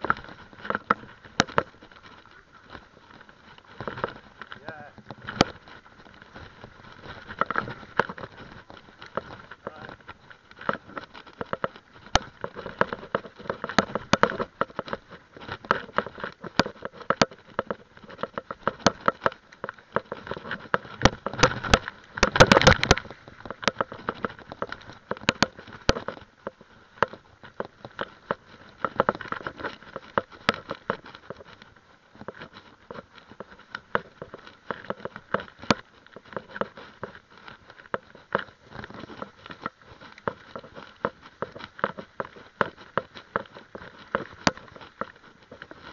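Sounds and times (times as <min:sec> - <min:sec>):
bike rattling and knocking: 0:00.0 - 0:45.9
bike tyres on dirt trail: 0:00.0 - 0:45.9.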